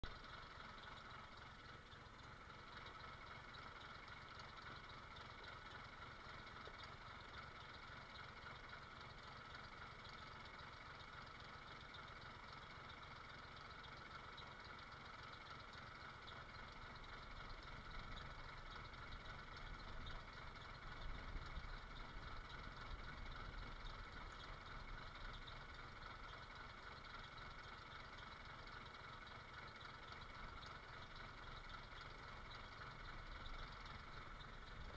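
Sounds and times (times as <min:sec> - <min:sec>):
faint engine idling: 0:00.0 - 0:34.9.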